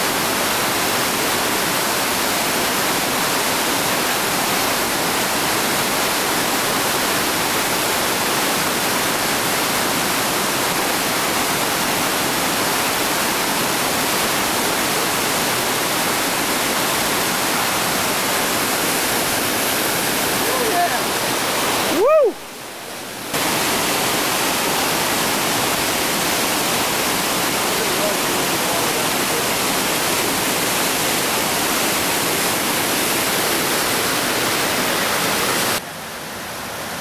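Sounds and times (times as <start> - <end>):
water rushing over boulders: 0.0 - 37.0.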